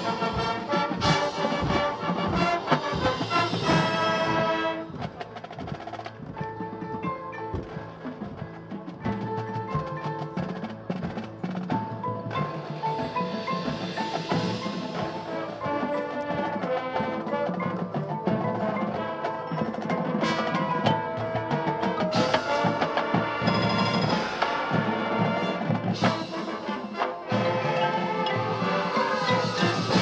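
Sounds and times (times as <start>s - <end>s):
drums: 0.0s - 30.0s
mallet percussion: 0.0s - 30.0s
marching band playing: 0.0s - 30.0s.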